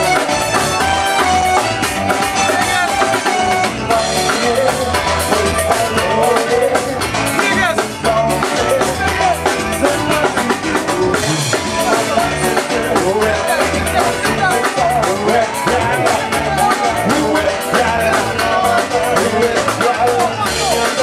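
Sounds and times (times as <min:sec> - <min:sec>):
drum kit: 0:00.0 - 0:21.0
pulsing bass line: 0:00.0 - 0:21.0
person singing: 0:02.2 - 0:21.0.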